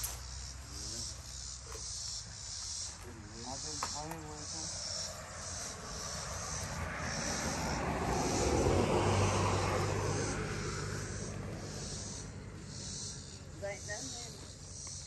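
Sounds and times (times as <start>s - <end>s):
high insect chorus: 0.0s - 15.0s
vehicle engine passing: 0.0s - 15.0s.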